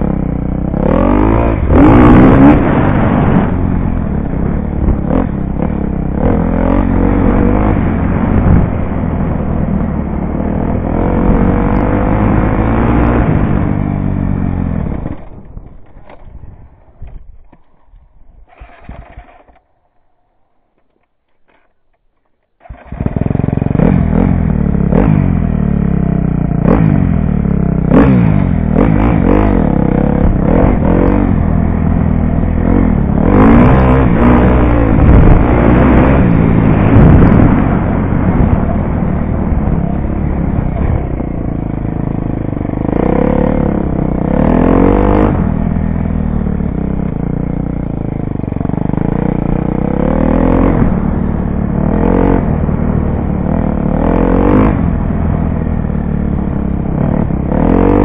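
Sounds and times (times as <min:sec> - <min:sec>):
dirt bike engine revving: 0:00.0 - 0:09.7, 0:10.3 - 0:15.4, 0:22.6 - 0:58.0.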